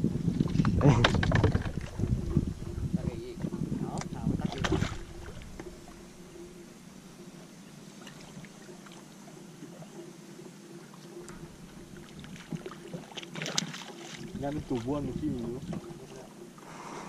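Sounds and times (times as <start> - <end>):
water splashing and trickling: 0.0 - 16.8.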